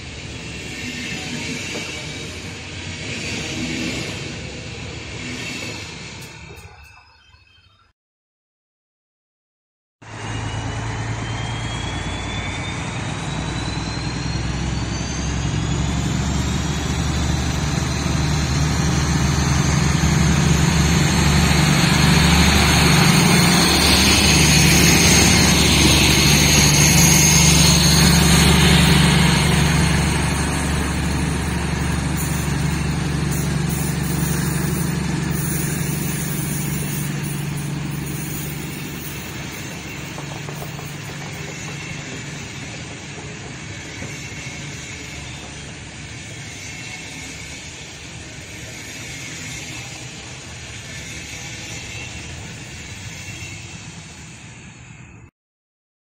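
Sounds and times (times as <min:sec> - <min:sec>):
diesel locomotive engines working: 0:00.0 - 0:07.5, 0:10.0 - 0:55.3.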